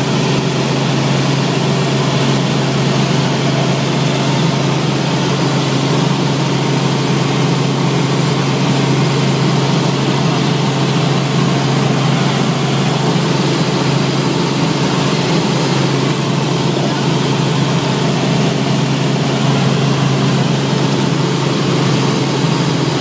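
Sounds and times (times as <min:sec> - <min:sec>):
helicopter engine and rotors drone: 0:00.0 - 0:23.0.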